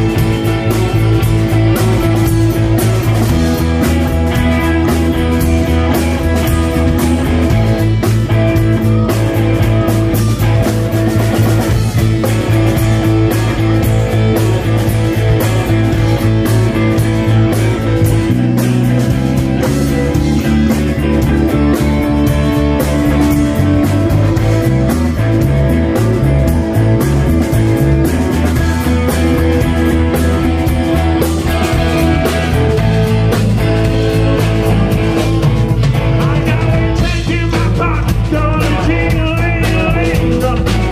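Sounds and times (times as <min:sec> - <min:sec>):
drum kit: 0:00.0 - 0:40.9
electric bass: 0:00.0 - 0:40.9
electric guitar: 0:00.0 - 0:40.9.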